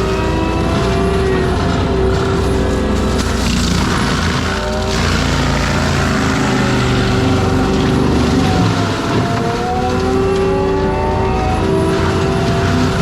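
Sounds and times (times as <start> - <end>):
forestry mulcher diesel drone: 0.0 - 13.0.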